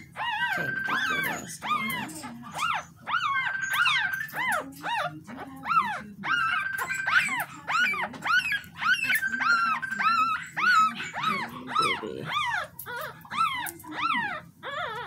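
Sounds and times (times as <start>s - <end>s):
puppy crying in high squeals: 0.0s - 15.0s.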